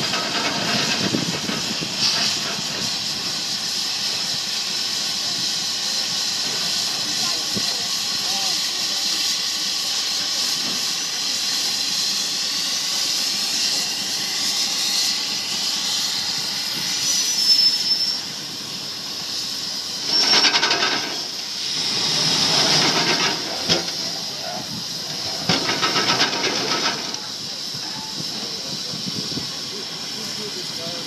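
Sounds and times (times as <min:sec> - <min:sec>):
rapid beating steam exhaust: 0:00.0 - 0:31.0
steam shovel hissing steam: 0:00.0 - 0:31.0.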